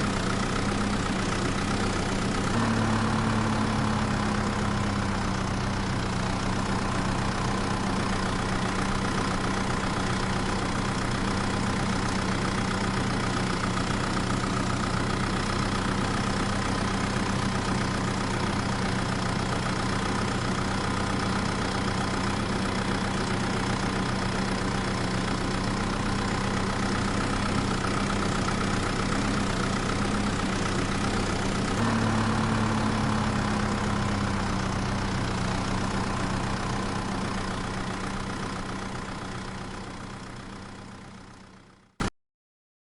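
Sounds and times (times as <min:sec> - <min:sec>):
engine idling: 0:00.0 - 0:42.1.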